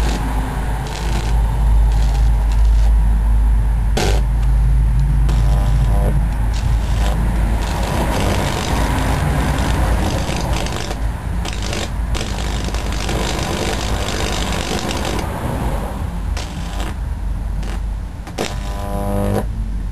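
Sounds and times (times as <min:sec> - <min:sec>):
buzzing crackling electric arc: 0:00.0 - 0:19.9
low mains hum: 0:00.0 - 0:19.9.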